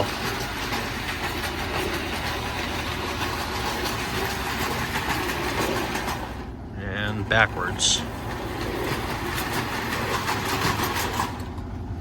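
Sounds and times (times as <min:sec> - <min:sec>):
toy train motor whirring: 0:00.0 - 0:06.5, 0:07.8 - 0:11.6
wheels clicking over rails: 0:00.0 - 0:12.0.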